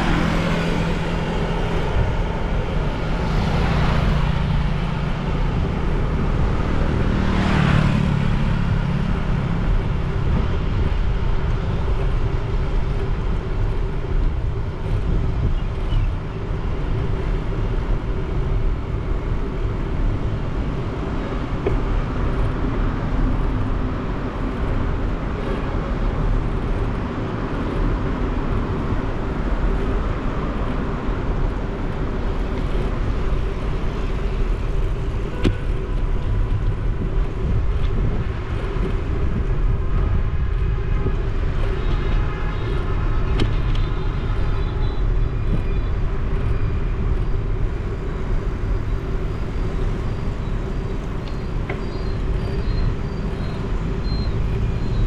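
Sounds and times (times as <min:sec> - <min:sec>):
road and traffic noise: 0:00.0 - 0:55.0.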